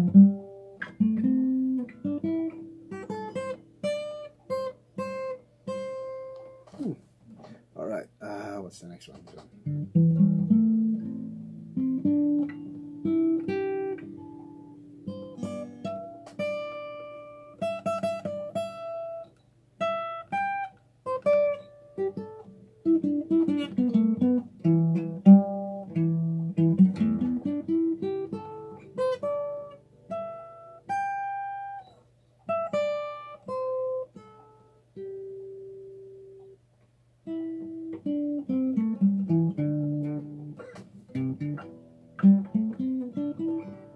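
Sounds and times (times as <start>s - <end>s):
acoustic guitar plucked notes: 0.0s - 36.6s, 37.2s - 43.9s.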